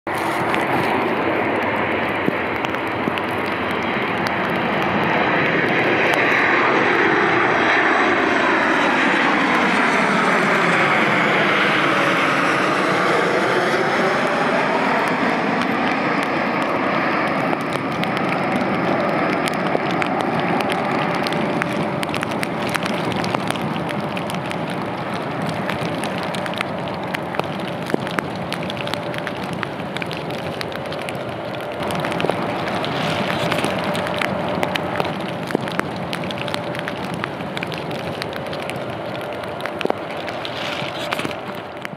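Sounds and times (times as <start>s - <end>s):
jet engines passing overhead: 0.1s - 41.9s
raindrops ticking: 0.1s - 41.9s.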